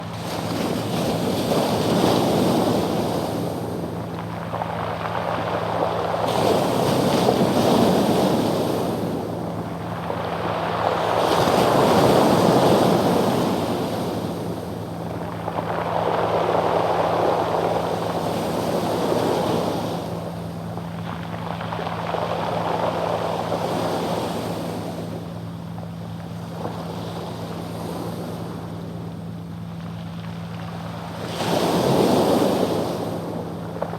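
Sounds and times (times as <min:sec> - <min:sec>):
boat engine humming: 0:00.0 - 0:33.9
waves rattling pebbles: 0:00.0 - 0:33.9.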